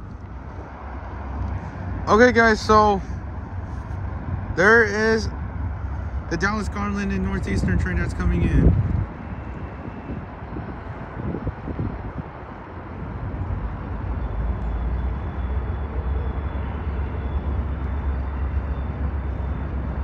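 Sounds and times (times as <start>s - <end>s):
distant diesel locomotive rumble: 0.0s - 20.0s.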